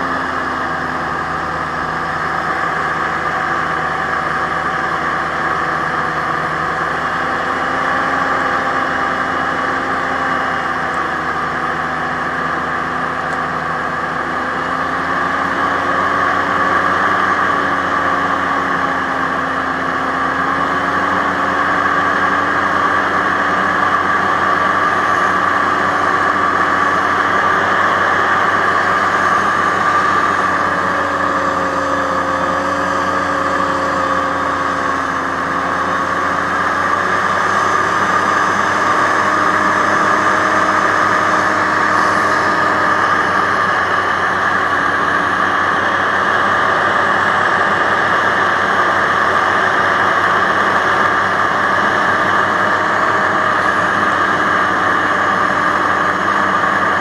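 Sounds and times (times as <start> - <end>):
hovercraft engine and fans droning: 0.0 - 57.0.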